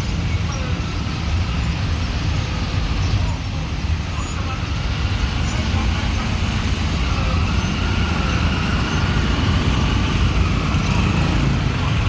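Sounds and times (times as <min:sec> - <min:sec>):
cars passing: 0:00.0 - 0:12.0
motorbikes passing: 0:00.0 - 0:12.0
traffic engine rumble: 0:00.0 - 0:12.0.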